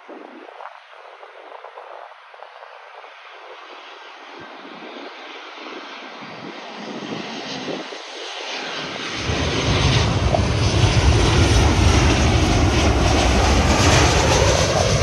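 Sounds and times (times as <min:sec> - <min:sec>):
jet plane passing low overhead: 0:01.1 - 0:15.0.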